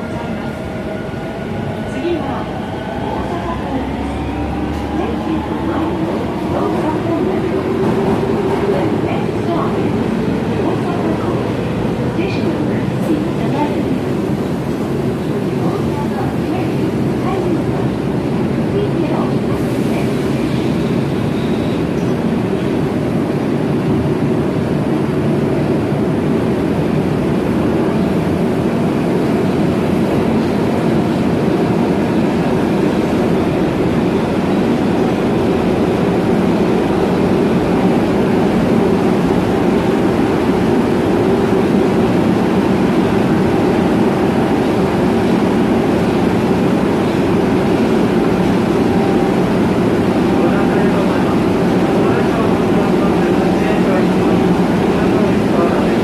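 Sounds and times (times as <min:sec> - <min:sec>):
idling train hum and rumble: 0:00.0 - 0:56.0.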